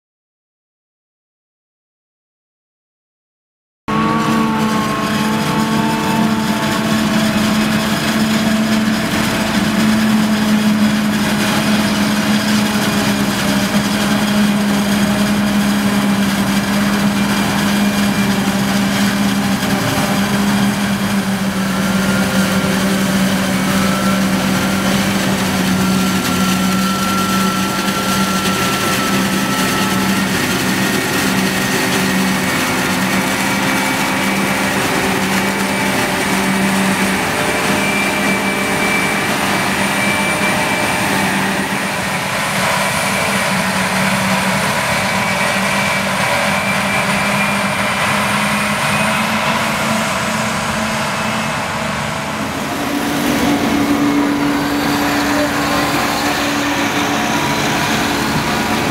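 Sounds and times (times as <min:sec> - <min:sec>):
harvester engine and machinery drone: 0:03.9 - 0:58.9.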